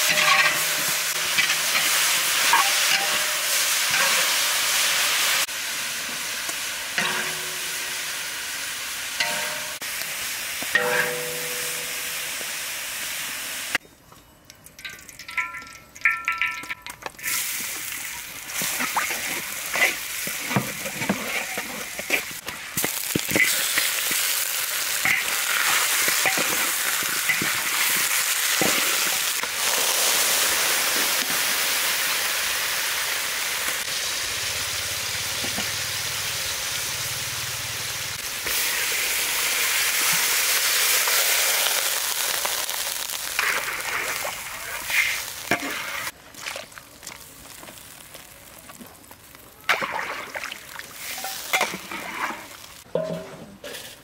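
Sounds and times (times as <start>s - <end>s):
food sizzling in a pan: 0.0s - 13.8s, 17.2s - 46.2s, 46.8s - 52.9s.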